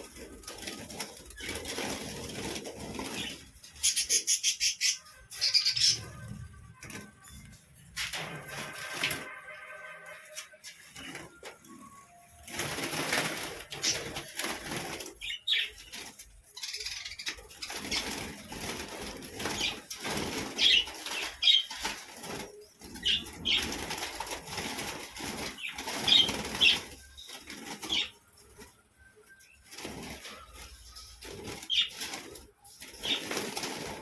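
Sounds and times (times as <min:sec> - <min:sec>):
birds flapping wings: 0:00.0 - 0:04.1, 0:05.8 - 0:28.8, 0:29.4 - 0:34.0.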